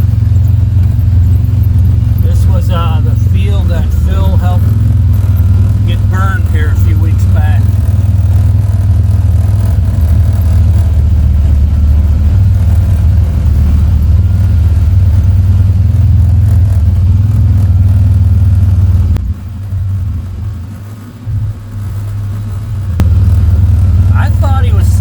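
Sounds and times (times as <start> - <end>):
vehicle driving low rumble: 0.0 - 25.0.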